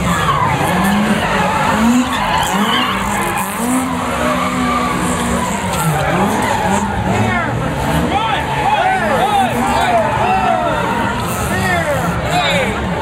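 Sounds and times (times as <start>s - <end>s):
car engine revving: 0.0s - 13.0s
tyres skidding on tarmac: 0.0s - 13.0s.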